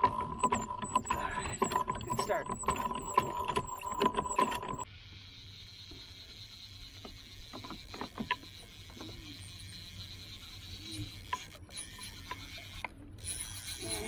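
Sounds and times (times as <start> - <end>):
fishing reel clicks: 1.1 - 14.0.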